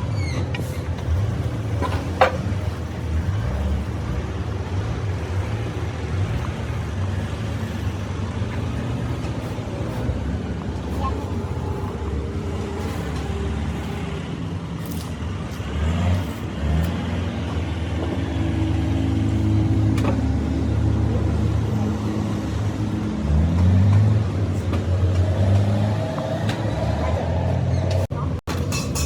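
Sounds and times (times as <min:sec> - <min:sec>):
vehicle engine revving: 0:00.9 - 0:28.1.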